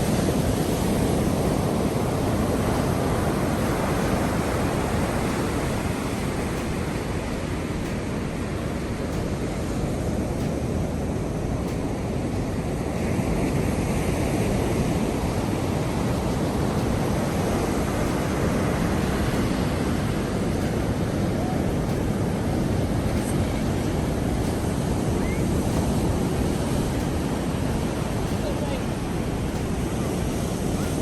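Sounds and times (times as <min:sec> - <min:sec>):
rough sea surf: 0:00.0 - 0:31.0.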